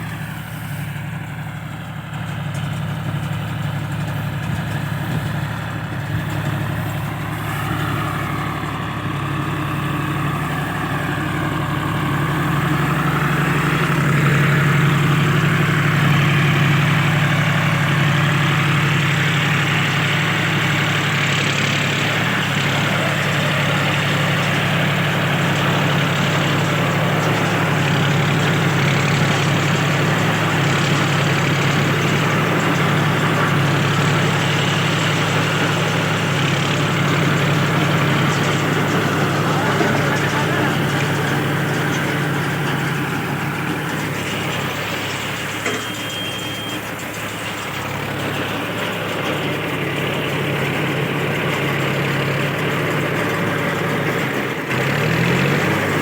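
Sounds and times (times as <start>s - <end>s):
baler machinery clatter and whir: 0.0s - 56.0s
tractor engine running: 0.0s - 56.0s.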